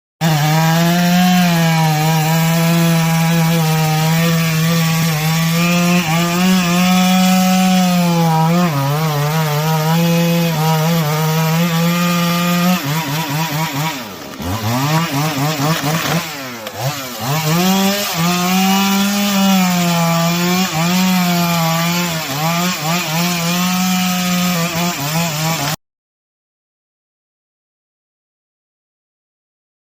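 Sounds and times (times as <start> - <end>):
chainsaw engine revving: 0.2 - 25.8.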